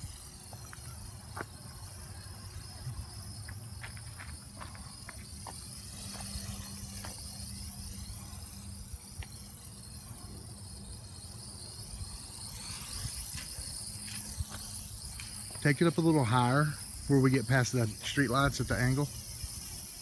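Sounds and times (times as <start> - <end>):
quadcopter propellers whining: 0.0 - 20.0.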